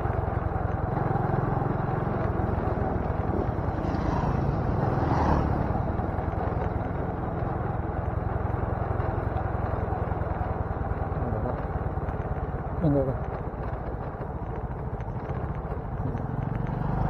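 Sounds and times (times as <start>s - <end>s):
motorcycle engine running: 0.0s - 17.0s
oncoming motorcycle passing: 0.0s - 17.0s.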